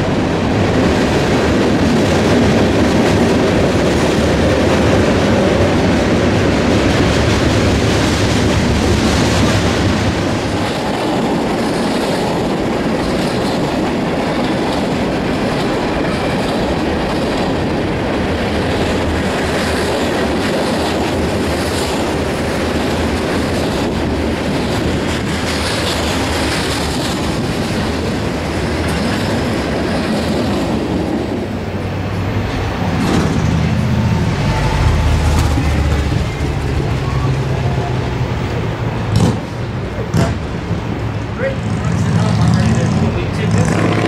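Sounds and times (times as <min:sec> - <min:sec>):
freight cars rolling past: 0:00.0 - 0:44.0.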